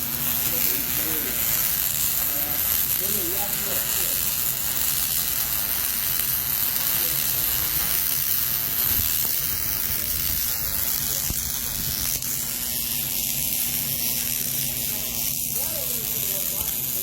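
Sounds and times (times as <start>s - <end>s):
arc welding sizzling hiss: 0.0s - 17.0s.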